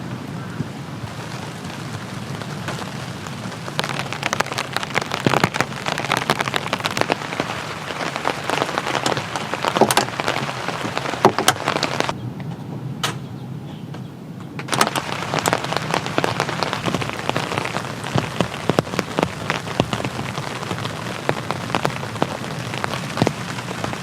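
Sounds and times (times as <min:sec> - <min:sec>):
rain falling: 0:00.0 - 0:12.2, 0:14.7 - 0:24.0.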